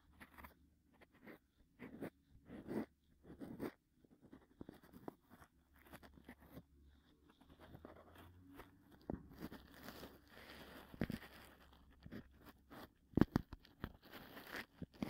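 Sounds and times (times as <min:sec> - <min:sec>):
cotton swab scraping ear: 0:00.0 - 0:15.0.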